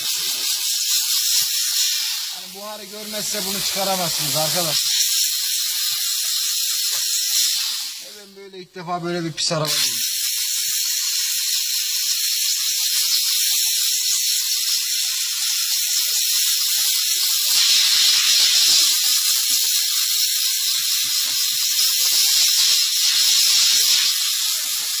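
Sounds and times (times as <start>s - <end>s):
steam nozzle hissing: 0.0s - 25.0s.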